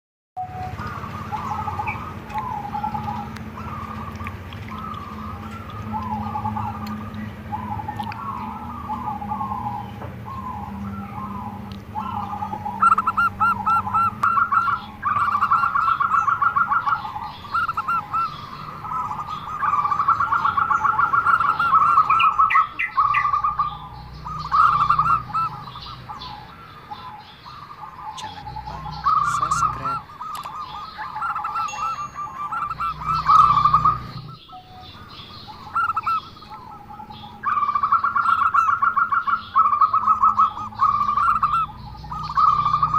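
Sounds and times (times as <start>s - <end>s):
dove cooing in trilled phrases: 0.4s - 42.9s
small birds chirping: 0.4s - 42.9s.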